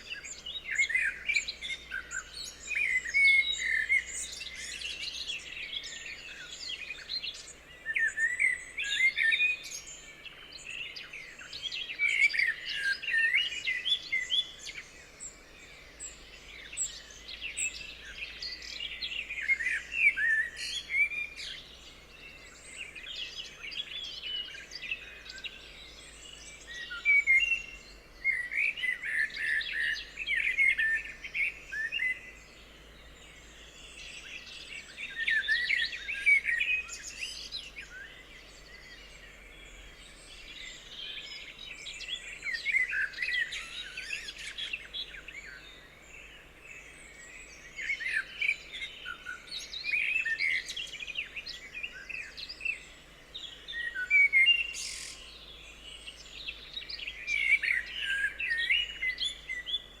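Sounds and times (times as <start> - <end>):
birds chirping and singing: 0.0 - 60.0.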